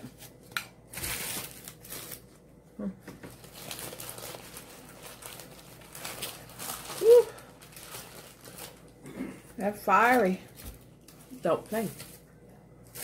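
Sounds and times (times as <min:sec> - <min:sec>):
paper wrapper crinkling: 0:00.2 - 0:02.5, 0:03.3 - 0:09.0, 0:10.0 - 0:13.0.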